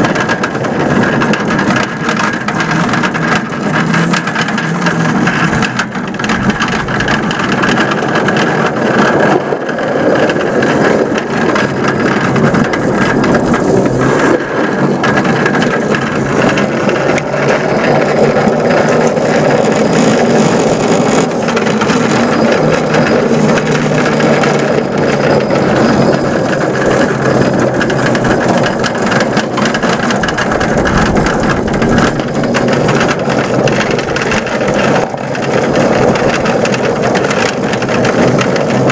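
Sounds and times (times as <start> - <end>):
miniature locomotive running: 0.0 - 38.9
small clicks and rattles: 0.0 - 38.9.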